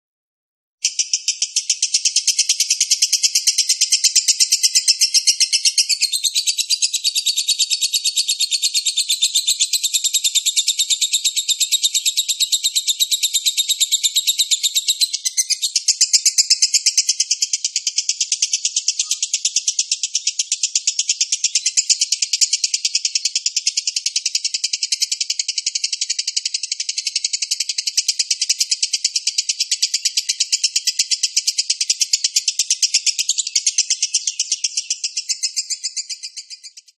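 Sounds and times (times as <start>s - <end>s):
lovebird chattering trill: 0.8s - 36.9s.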